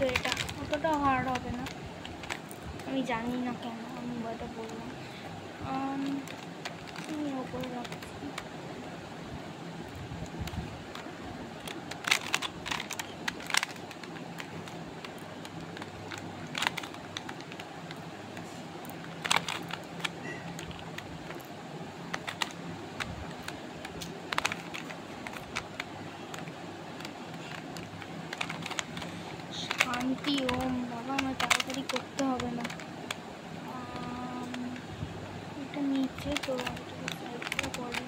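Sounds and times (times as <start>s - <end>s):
puzzle cube clicking: 0.0s - 2.6s, 6.0s - 8.5s, 10.2s - 34.8s, 35.9s - 38.0s.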